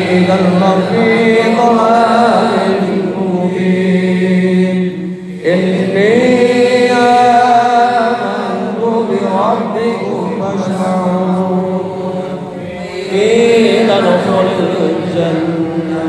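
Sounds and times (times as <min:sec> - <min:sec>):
solo religious chanting: 0:00.0 - 0:16.0.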